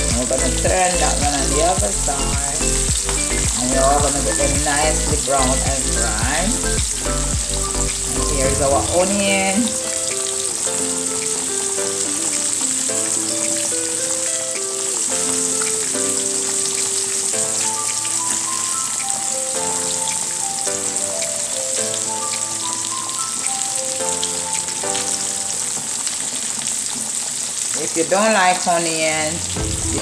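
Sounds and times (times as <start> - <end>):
music with held notes: 0.0 - 26.1, 29.4 - 30.0
food sizzling in a frying pan: 0.0 - 30.0.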